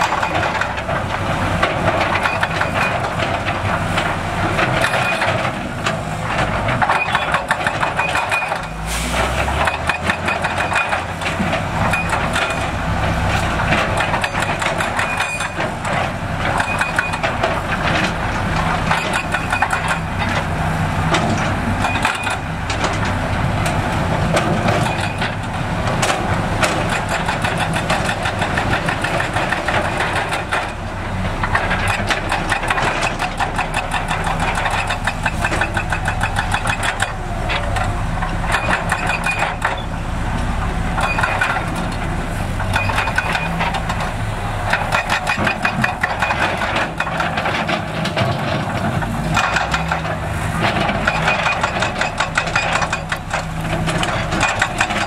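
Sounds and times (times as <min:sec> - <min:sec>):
diesel machinery engine: 0:00.0 - 0:55.0.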